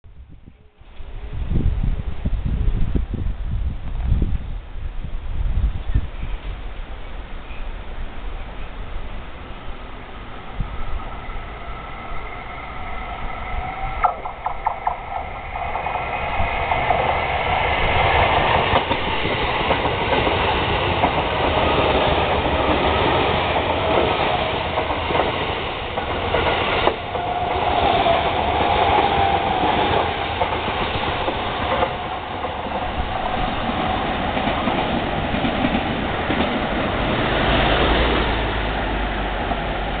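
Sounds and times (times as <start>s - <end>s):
electric train passing: 6.2s - 40.0s.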